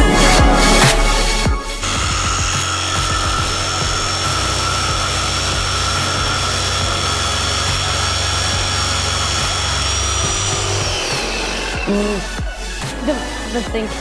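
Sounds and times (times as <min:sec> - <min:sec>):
electric jigsaw motor whine: 0:01.7 - 0:13.5.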